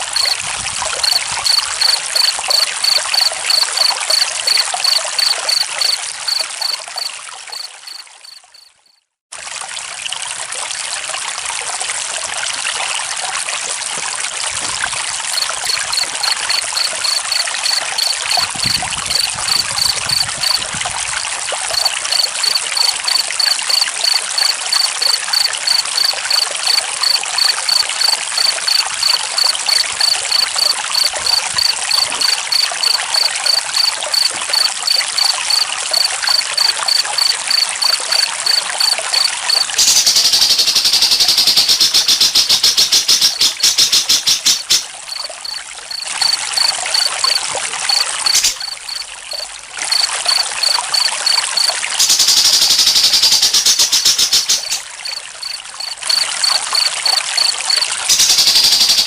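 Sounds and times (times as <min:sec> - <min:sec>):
stream water flowing: 0:00.0 - 0:08.7, 0:09.3 - 0:59.0
cricket chirping: 0:00.0 - 0:09.0, 0:15.3 - 0:59.0.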